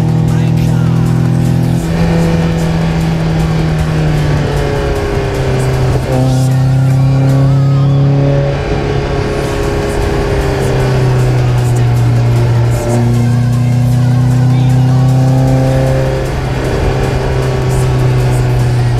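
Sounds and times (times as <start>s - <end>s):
four-cylinder engine revving: 0.0s - 18.9s.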